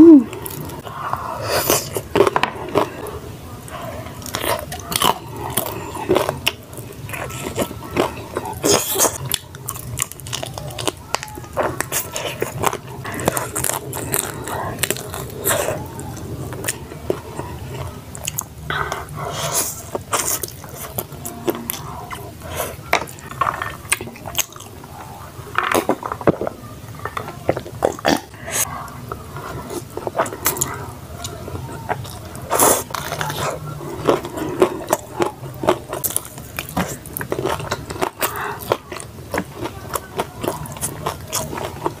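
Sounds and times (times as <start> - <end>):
chewing and lip smacks: 3.7 - 42.0.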